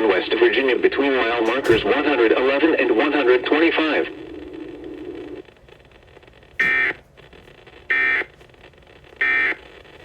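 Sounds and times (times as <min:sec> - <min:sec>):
faint radio hiss: 0:00.0 - 0:10.0.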